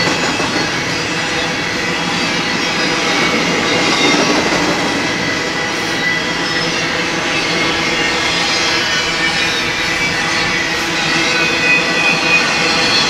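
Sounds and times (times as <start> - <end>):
high wheel squeal: 0.0 - 13.0
steel wheels rumbling on rail: 0.0 - 13.0.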